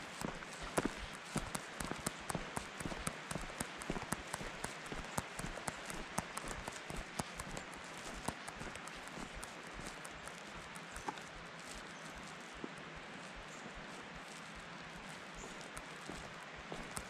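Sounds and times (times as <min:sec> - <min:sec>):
footsteps on gravel: 0:00.0 - 0:17.0
steady hiss: 0:00.0 - 0:17.0.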